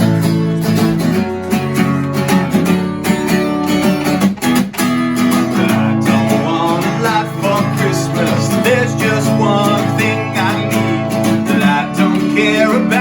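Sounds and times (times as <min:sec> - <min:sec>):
strummed acoustic guitar music: 0:00.0 - 0:13.0.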